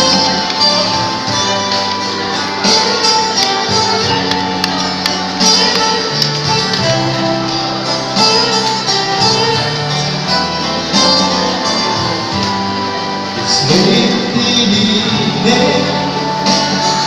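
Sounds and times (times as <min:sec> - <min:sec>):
acoustic guitars strummed and plucked: 0:00.0 - 0:17.0.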